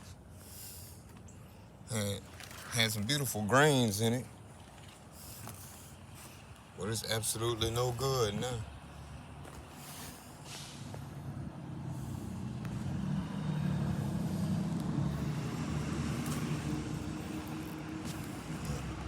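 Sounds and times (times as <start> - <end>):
vehicle engine humming: 3.3 - 19.0.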